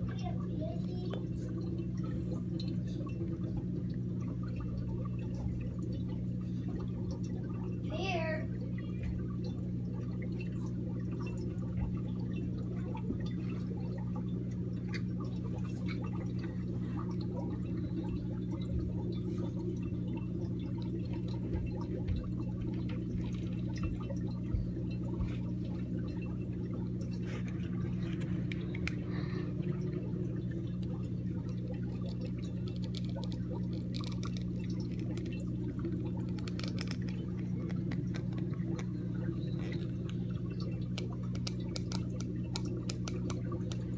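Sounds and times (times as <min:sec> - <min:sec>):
small splashy ticks: 0:00.0 - 0:29.3, 0:30.0 - 0:43.9
air pump humming: 0:00.0 - 0:43.9
sponge filter bubbling and gurgling: 0:00.0 - 0:43.9.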